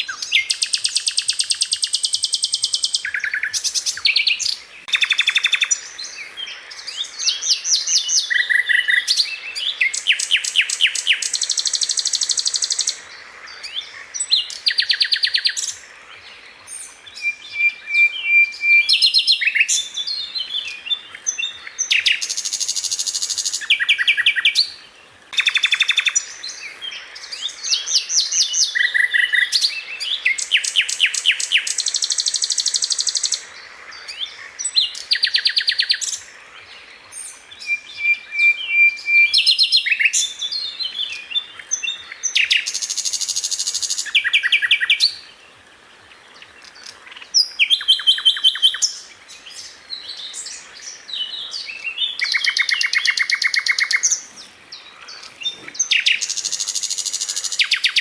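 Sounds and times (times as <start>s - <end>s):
bird chirps: 0.0s - 45.4s, 46.1s - 58.0s.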